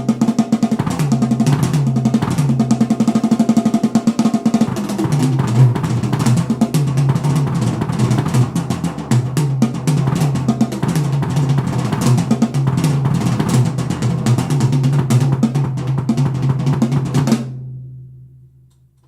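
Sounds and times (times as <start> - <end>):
drum-heavy music with bass: 0.0 - 17.6.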